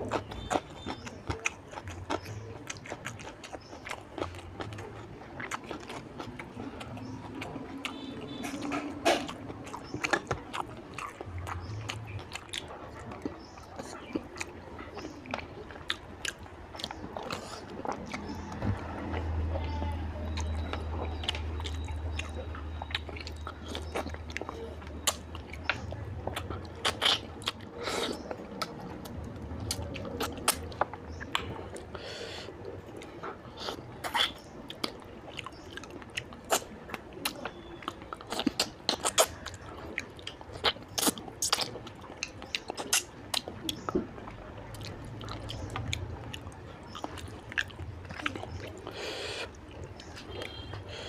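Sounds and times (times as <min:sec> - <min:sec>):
food crunching: 0:00.0 - 0:51.0
mouth clicks: 0:00.0 - 0:51.0
wet chewing and smacking: 0:00.0 - 0:51.0.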